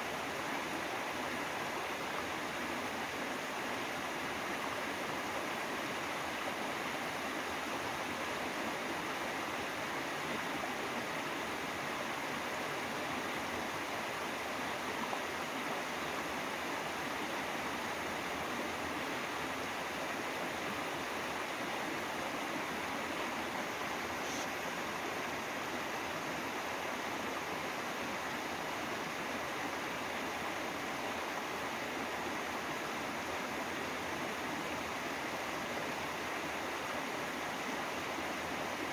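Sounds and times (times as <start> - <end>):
stream flowing water: 0.0 - 38.9.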